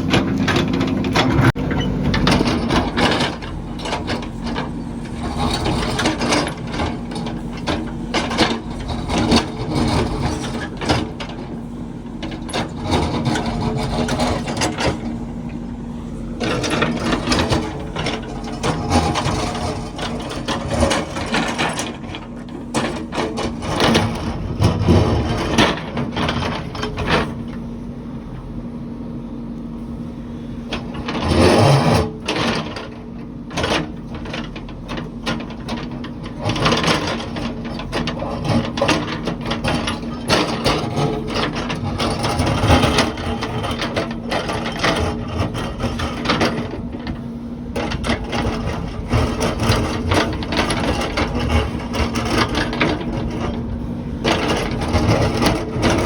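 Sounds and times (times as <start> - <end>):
machinery knocking and clanking: 0.0 - 27.6, 30.7 - 56.0
heavy machine engine running: 0.0 - 56.0.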